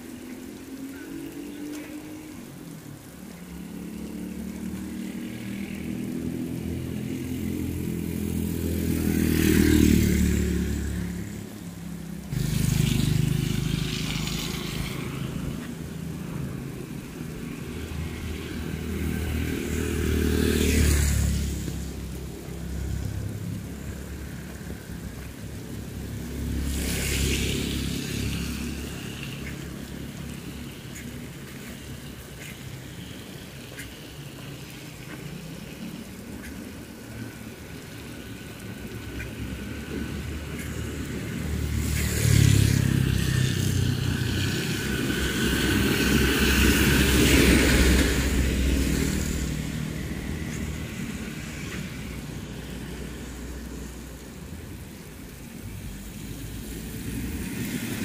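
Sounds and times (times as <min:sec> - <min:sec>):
rain hissing: 0:00.0 - 0:58.0
tyres hissing on wet road: 0:00.0 - 0:58.0
vehicles passing on wet road: 0:00.0 - 0:58.0.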